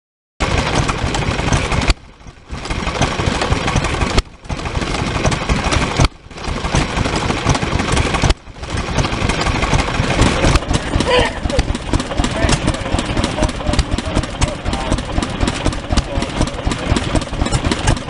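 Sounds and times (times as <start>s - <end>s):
stationary engines running: 0.4s - 18.0s.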